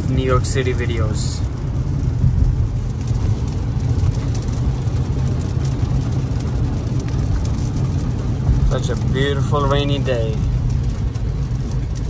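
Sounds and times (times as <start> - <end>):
car engine: 0.0 - 12.0
rain ticking on a car: 0.0 - 12.0
tyre and road noise: 0.0 - 12.0.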